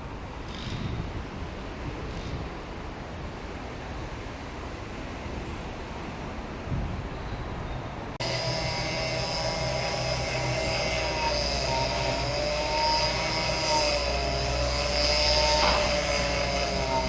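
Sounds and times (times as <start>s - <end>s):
diesel train whine and rumble: 0.0s - 17.0s.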